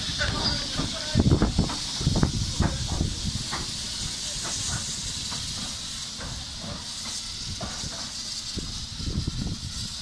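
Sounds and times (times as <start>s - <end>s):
steam hissing from locomotive: 0.0s - 10.0s.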